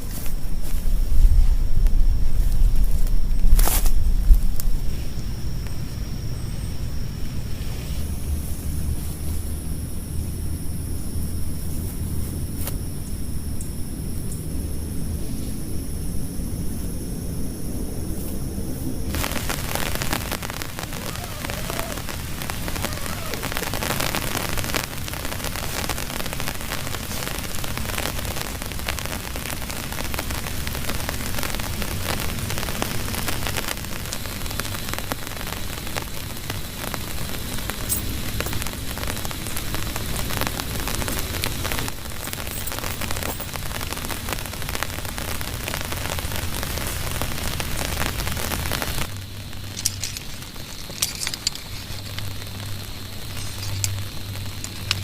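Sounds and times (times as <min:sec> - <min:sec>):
heavy rain on a surface: 0:00.0 - 0:05.9, 0:07.2 - 0:12.8, 0:13.4 - 0:55.0.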